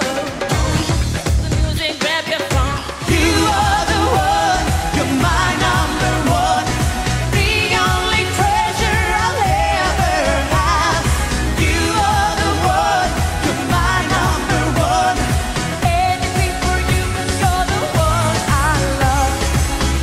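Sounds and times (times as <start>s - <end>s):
woman singing pop dance song: 0.0s - 20.0s
steady dance beat: 3.1s - 20.0s.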